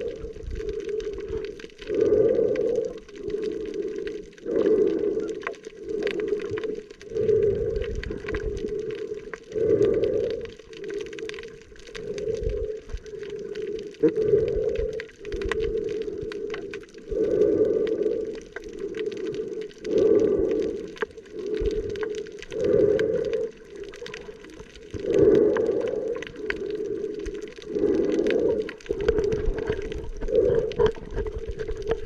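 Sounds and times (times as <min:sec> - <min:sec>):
breathing through a snorkel: 0:00.0 - 0:32.0
crackling clicks in water: 0:00.0 - 0:32.0.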